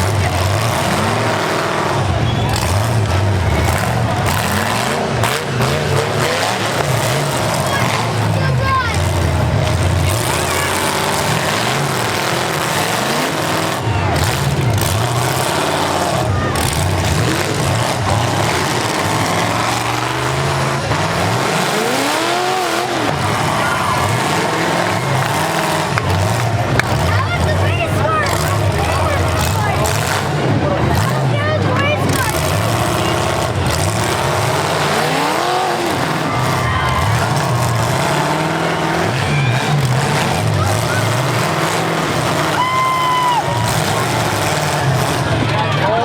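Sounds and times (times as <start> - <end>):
car engines running loudly: 0.0 - 46.0
engine revving up: 0.0 - 46.0.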